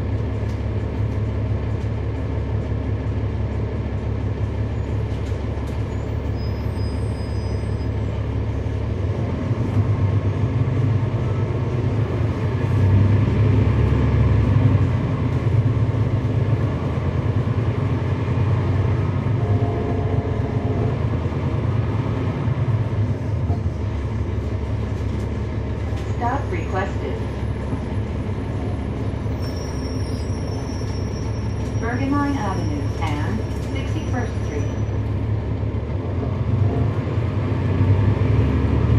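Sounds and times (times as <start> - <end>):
bus diesel engine drone: 0.0 - 38.9
road noise: 0.0 - 38.9.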